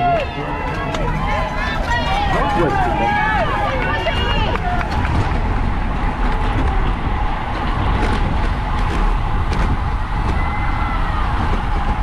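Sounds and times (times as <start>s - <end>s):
deep steady rumble: 0.0s - 12.0s
wind rushing over microphone: 0.0s - 12.0s.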